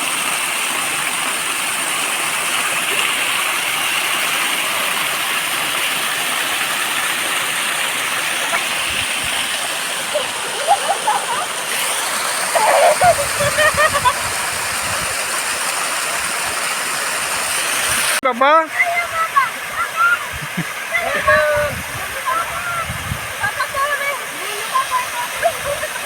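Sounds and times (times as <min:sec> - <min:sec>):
water rushing over waterfall: 0:00.0 - 0:26.0.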